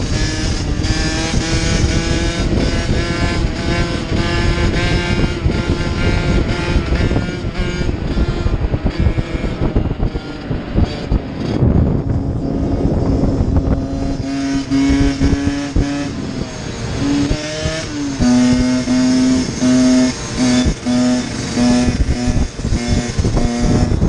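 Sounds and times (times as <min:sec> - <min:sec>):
two-stroke dirt bike engine: 0:00.0 - 0:24.0
wind noise on microphone: 0:00.0 - 0:24.0.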